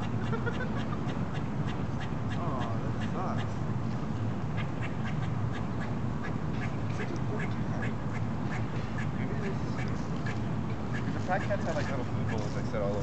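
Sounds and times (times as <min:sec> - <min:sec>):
squirrel alarm calls: 0:00.0 - 0:03.6, 0:04.5 - 0:12.6.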